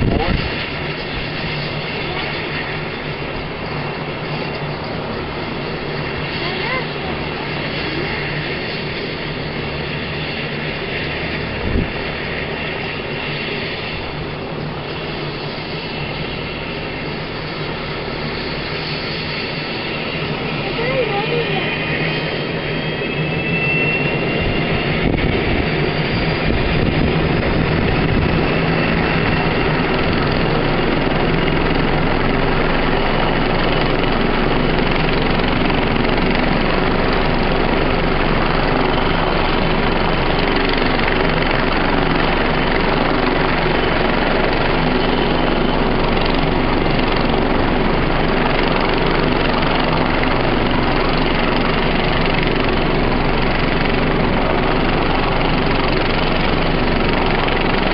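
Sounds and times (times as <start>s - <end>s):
helicopter engines and rotor: 0.0s - 57.9s.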